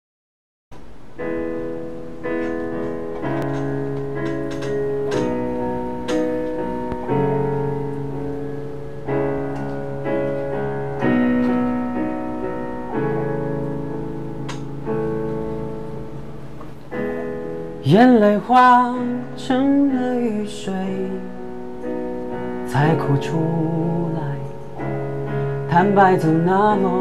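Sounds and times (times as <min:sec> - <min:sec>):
soft instrumental chords: 0:01.2 - 0:27.0.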